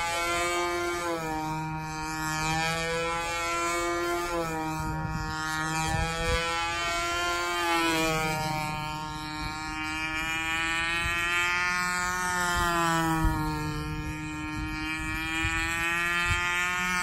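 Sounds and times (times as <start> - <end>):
model airplane motor buzzing: 0.0 - 17.0.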